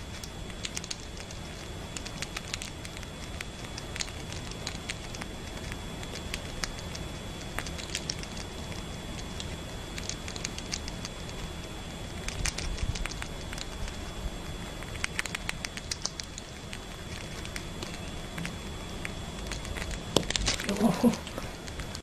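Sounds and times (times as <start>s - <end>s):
squirrel chewing fruit: 0.0s - 22.0s.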